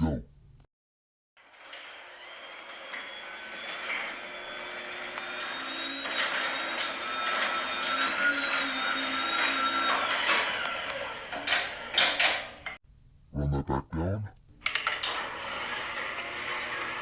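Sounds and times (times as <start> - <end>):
garage door opener whirring: 1.4 - 12.8, 14.6 - 17.0.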